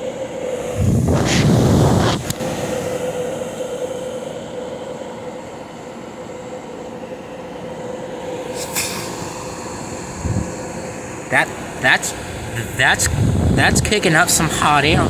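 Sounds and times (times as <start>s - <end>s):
air conditioner fan rushing: 0.0s - 15.0s
steady hum: 0.0s - 15.0s.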